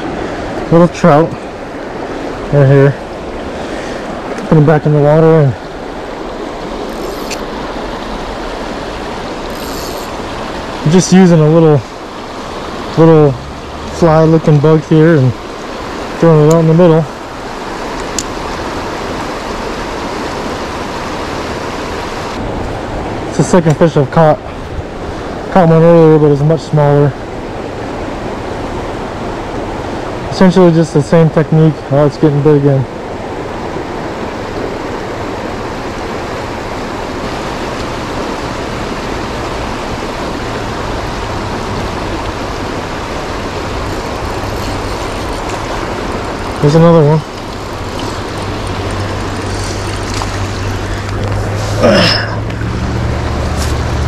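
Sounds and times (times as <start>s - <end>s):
river current rushing: 0.0s - 54.0s.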